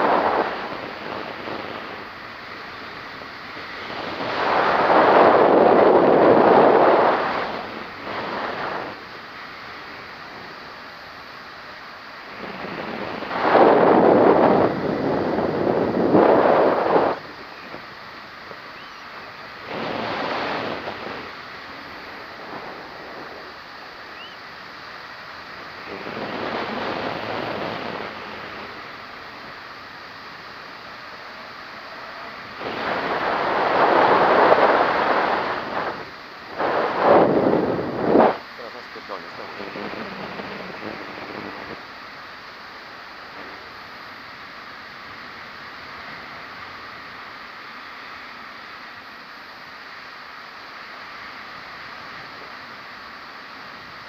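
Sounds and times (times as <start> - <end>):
wind blasting across microphone: 0.0 - 54.0.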